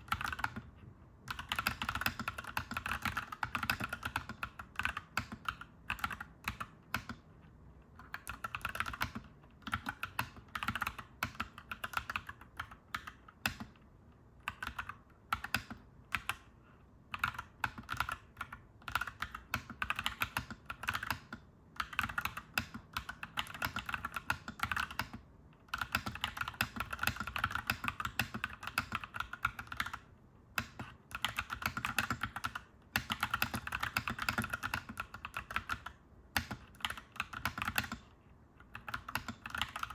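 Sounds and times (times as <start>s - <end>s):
mechanical keyboard typing: 0.0s - 0.7s, 1.3s - 7.2s, 8.0s - 13.8s, 14.4s - 16.5s, 17.1s - 39.9s.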